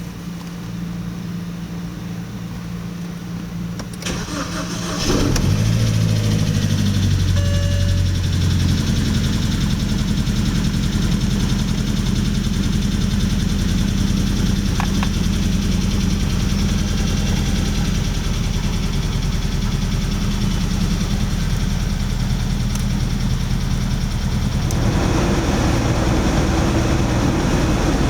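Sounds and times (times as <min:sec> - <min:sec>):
car engine idling: 0:03.3 - 0:28.0.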